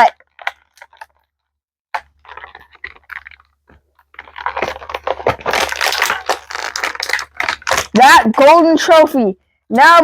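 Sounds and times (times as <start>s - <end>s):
plastic packaging crinkling: 0.0s - 8.3s.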